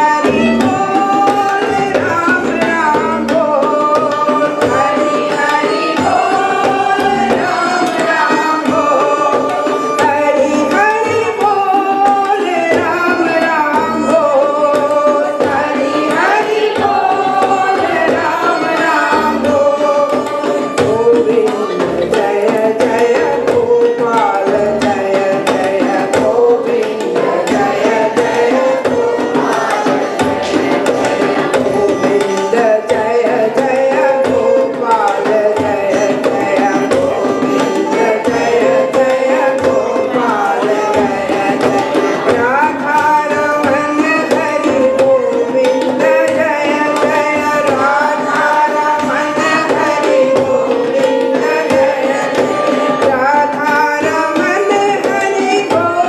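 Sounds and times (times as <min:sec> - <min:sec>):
hand drum: 0:00.0 - 0:56.0
tabla: 0:00.0 - 0:56.0
women singing devotional song: 0:00.0 - 0:56.0.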